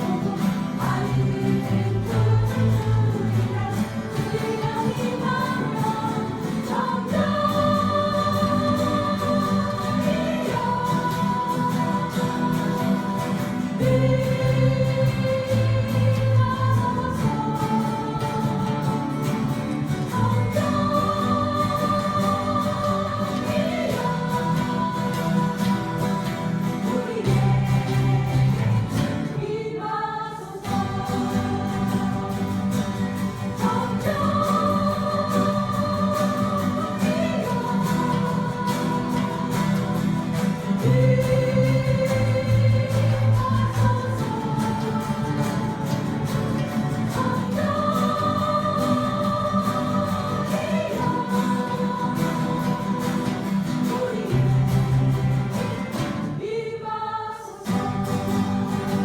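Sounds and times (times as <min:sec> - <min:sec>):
acoustic guitars strumming: 0:00.0 - 0:59.0
group singing a worship song: 0:00.0 - 0:59.0.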